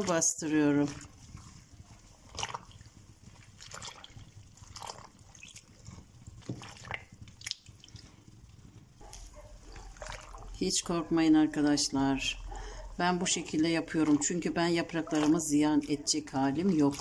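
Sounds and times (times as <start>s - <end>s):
brine sloshing and dripping: 0.0s - 17.0s.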